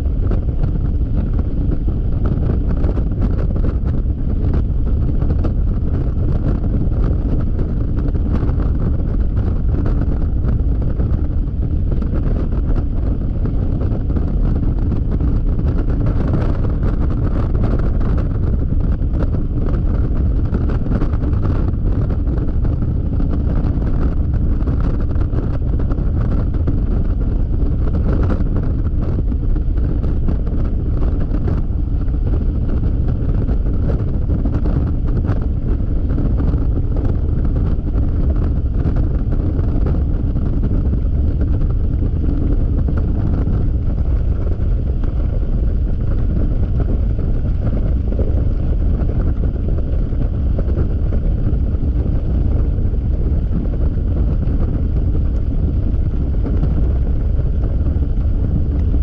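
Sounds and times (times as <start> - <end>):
scooter engine and road noise: 0.0 - 59.0
wind buffeting microphone: 0.0 - 59.0.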